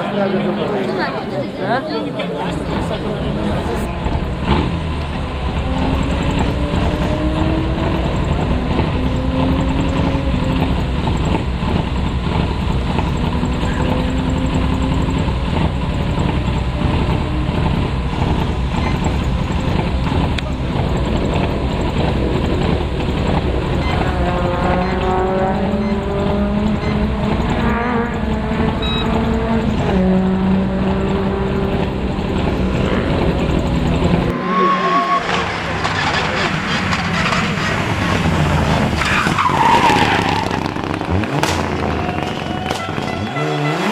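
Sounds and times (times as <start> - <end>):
rally car engine shifting gears: 0.0 - 43.9.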